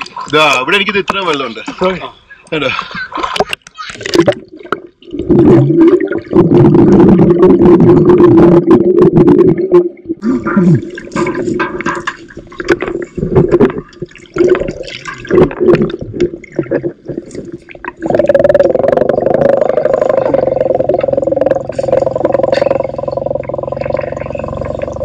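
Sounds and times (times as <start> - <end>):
water churning and gurgling: 0.0 - 25.0.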